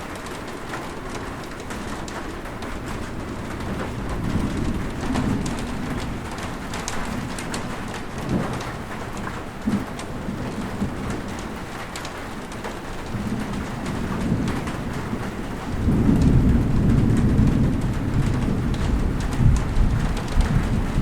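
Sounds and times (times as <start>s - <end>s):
close raindrops ticking: 0.0s - 21.0s
steady rain: 0.0s - 21.0s
low rumble of thunder: 0.1s - 21.0s.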